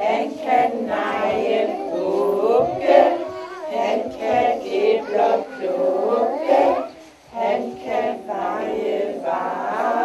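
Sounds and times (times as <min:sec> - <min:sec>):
children singing a christmas song: 0:00.0 - 0:10.0.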